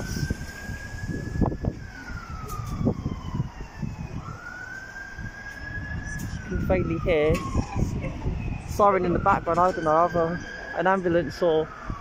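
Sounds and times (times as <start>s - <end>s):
faint siren wailing: 0.0s - 12.0s.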